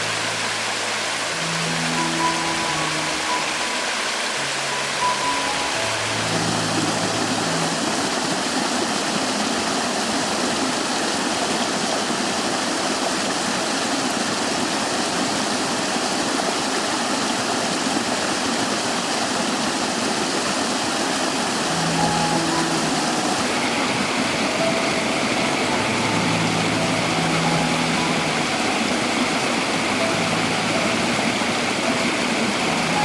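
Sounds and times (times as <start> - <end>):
stream rushing over rocks: 0.0 - 33.0.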